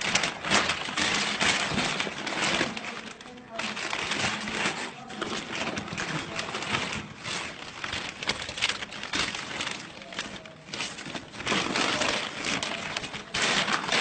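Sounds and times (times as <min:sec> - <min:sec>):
wrapping rustling: 0:00.0 - 0:14.0.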